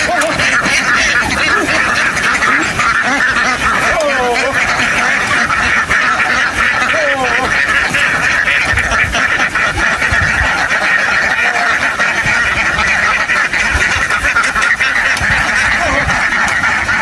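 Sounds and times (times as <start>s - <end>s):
flock of ducks quacking: 0.0s - 17.0s.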